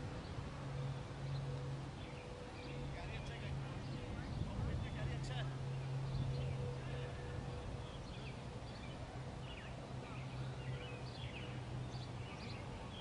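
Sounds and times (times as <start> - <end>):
low outdoor hum: 0.0 - 13.0
small birds chirping: 0.0 - 13.0.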